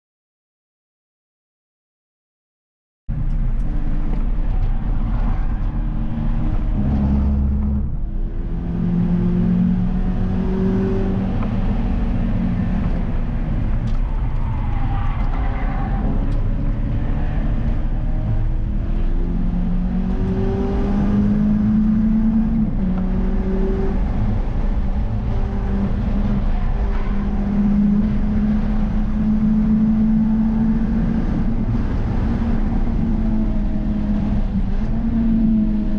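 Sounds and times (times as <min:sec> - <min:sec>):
car engine accelerating: 0:03.1 - 0:35.9
road and wind noise: 0:03.1 - 0:35.9.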